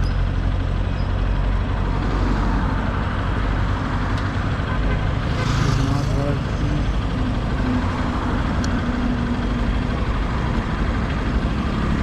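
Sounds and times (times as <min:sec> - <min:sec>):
motorcycle engine drone: 0:00.0 - 0:12.0.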